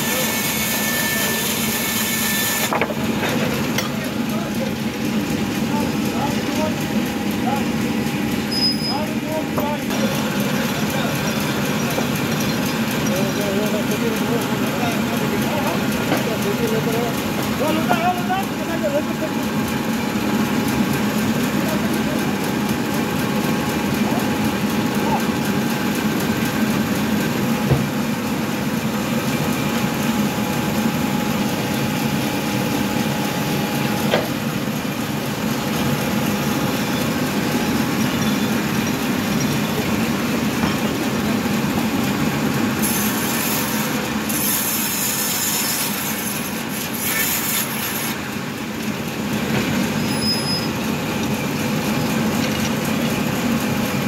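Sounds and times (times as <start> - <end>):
bandsaw mill sawing log: 0.0 - 54.0.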